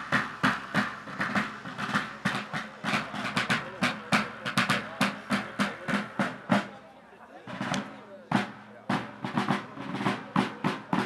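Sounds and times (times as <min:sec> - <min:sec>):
field drum marching rhythm: 0:00.0 - 0:11.0.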